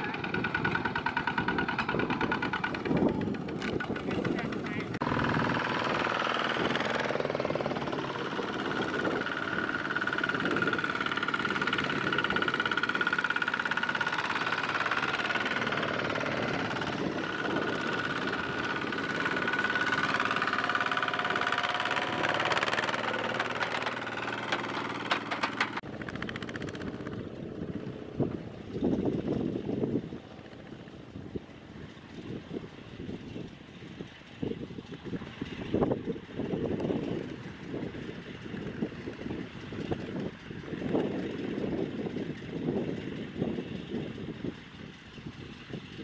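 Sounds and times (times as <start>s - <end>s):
diesel tractor engines chugging: 0.0s - 46.0s.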